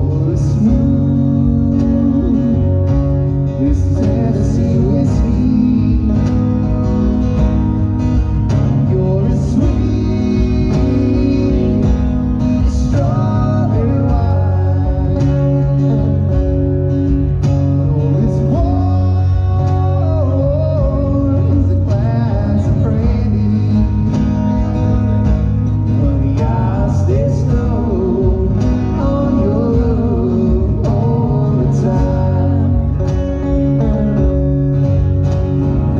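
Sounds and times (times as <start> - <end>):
man singing: 0.0 - 7.4, 8.2 - 35.9
bass: 0.0 - 35.9
second guitar: 0.0 - 35.9
strummed acoustic guitar: 0.0 - 35.9.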